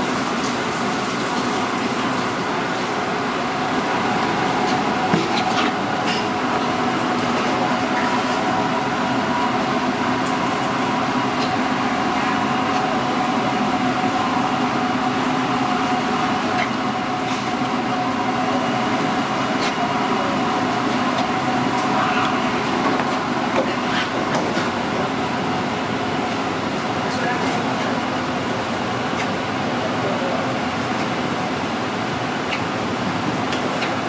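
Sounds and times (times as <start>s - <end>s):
kitchen ventilation drone: 0.0s - 34.0s.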